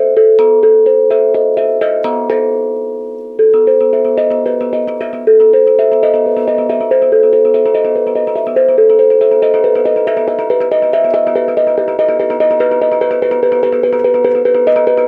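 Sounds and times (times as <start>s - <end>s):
struck pitched instrument melody: 0.0s - 15.0s.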